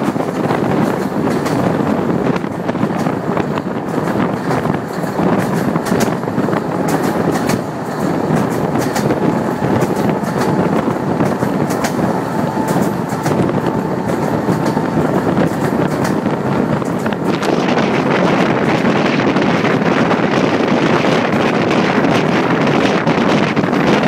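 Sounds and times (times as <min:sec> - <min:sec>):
train rumble and rush: 0:00.0 - 0:24.0
wheels clicking over rail joints: 0:00.0 - 0:24.0.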